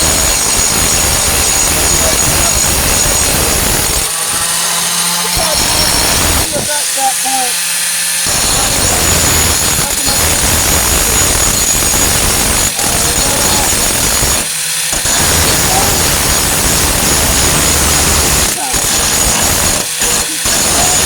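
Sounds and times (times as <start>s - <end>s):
angle grinder grinding steel: 0.0s - 21.0s.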